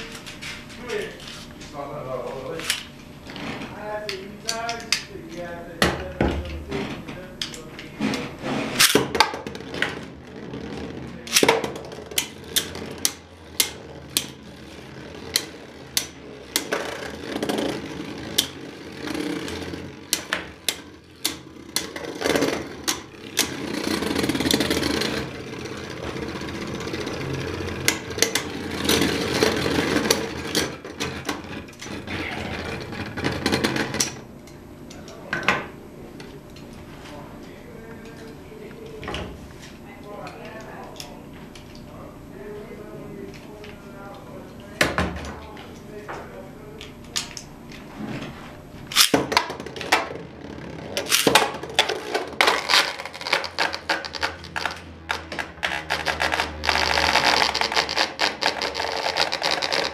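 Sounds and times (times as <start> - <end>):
spinning tops whirring and scraping: 0.0 - 35.3, 46.8 - 59.9.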